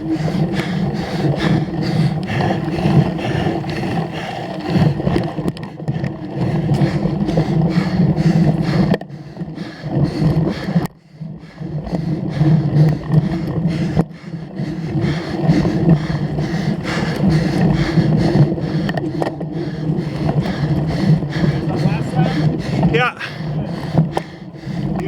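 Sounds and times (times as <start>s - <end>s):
bike rumbling over rough ground: 0.0s - 25.0s.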